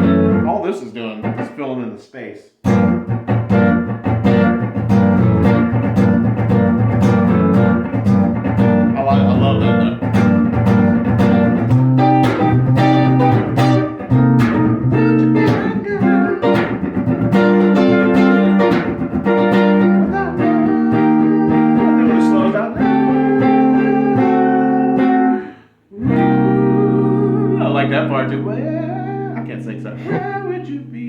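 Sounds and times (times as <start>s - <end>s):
guitar strumming chords: 0.0s - 1.8s, 2.6s - 31.0s.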